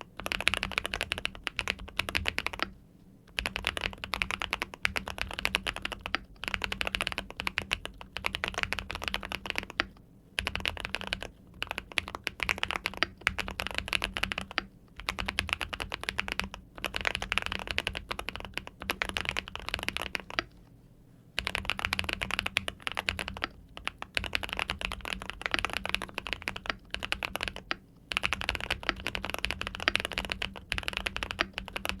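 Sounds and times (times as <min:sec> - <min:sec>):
mechanical keyboard typing: 0:00.2 - 0:02.7, 0:03.3 - 0:20.5, 0:21.4 - 0:32.0.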